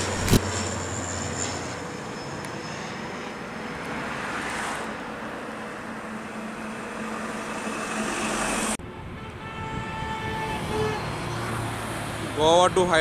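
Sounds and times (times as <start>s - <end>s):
turboprop plane passing overhead: 0.0s - 13.0s.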